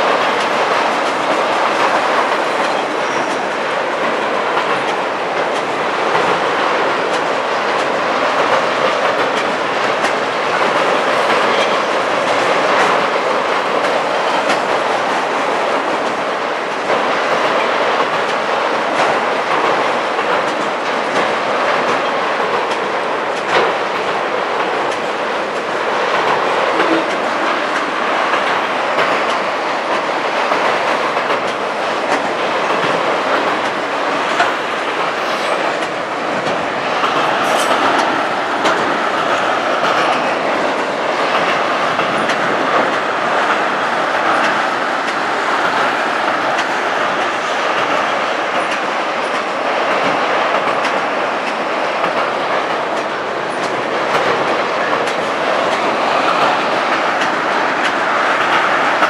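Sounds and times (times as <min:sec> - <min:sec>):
clicks and rattling of freight cars: 0:00.0 - 0:59.0
steel wheels rolling on rail: 0:00.0 - 0:59.0.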